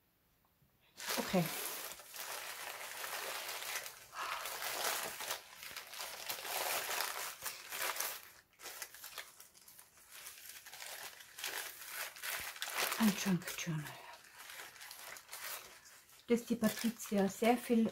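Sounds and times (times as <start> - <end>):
wrapping crinkling: 1.0 - 17.9.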